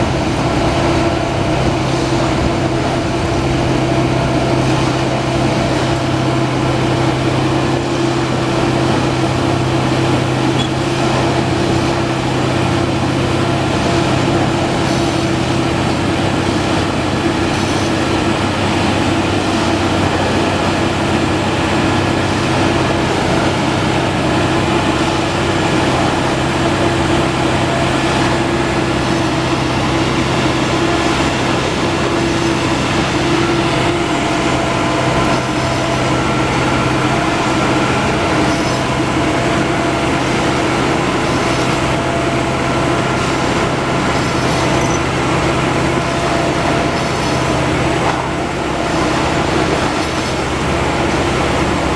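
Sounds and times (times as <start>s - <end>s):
diesel machine humming: 0.0s - 51.9s.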